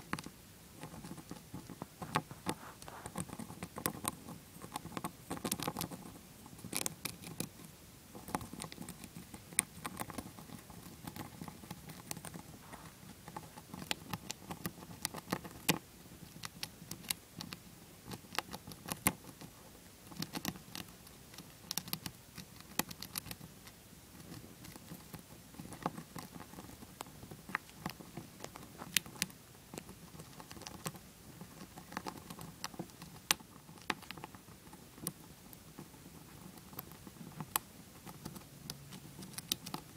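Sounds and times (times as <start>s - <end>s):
hamster gnawing a nut: 0.0s - 39.9s.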